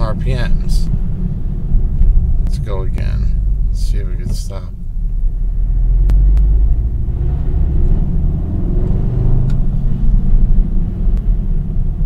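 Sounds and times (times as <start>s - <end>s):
car engine rumbling at low revs: 0.0s - 12.0s.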